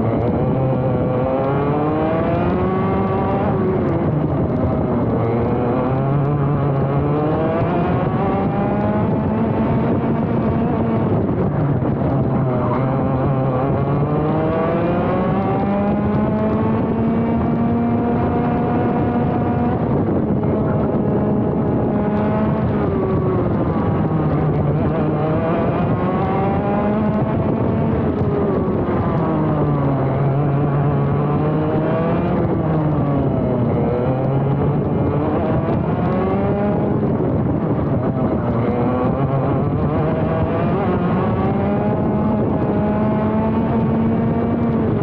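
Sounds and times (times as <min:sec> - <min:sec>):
kart engine revving: 0:00.0 - 0:45.0.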